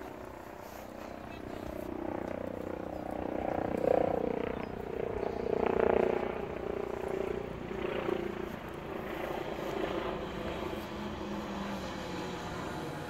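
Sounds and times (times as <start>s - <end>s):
engine drone with low hum: 0.0s - 13.0s.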